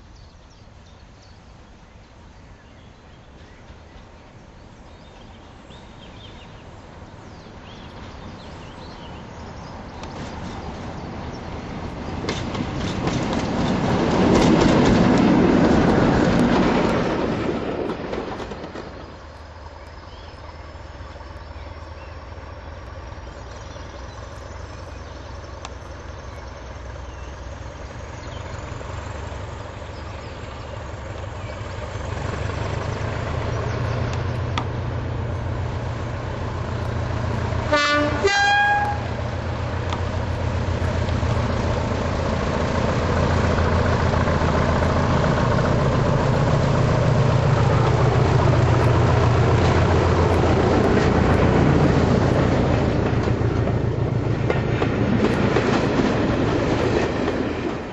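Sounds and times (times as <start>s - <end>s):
diesel locomotive passing: 0.0s - 57.9s
idling locomotives low drone: 0.0s - 57.9s.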